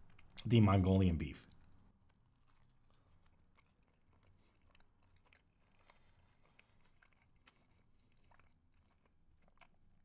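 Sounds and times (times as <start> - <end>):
chewing soft bun: 0.0 - 10.0.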